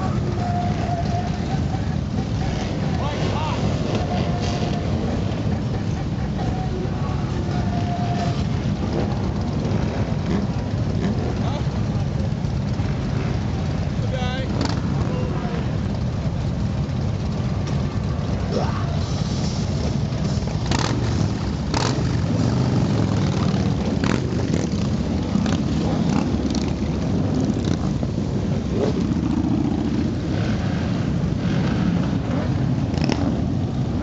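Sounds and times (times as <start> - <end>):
motorcycles riding past: 0.0 - 34.0.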